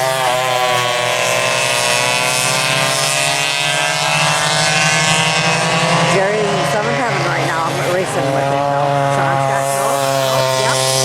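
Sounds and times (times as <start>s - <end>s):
go-kart engines at high revs: 0.0s - 11.0s.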